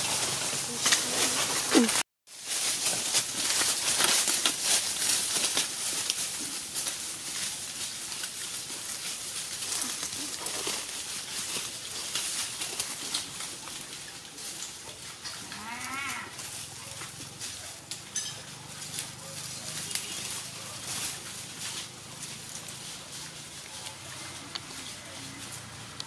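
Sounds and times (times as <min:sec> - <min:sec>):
crackling rustle with clicks: 0:00.0 - 0:26.0.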